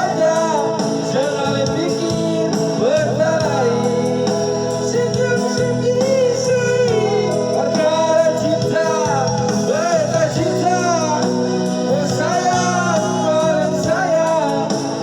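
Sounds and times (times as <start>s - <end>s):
pop song with vocals: 0.0s - 15.0s.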